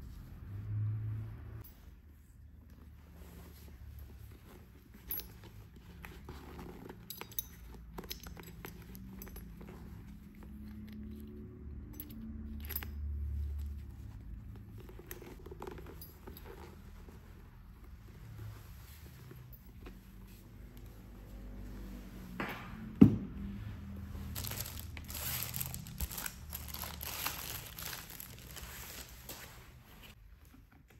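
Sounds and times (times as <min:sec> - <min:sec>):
strap and padding rustling: 0:01.7 - 0:11.4, 0:12.5 - 0:30.9.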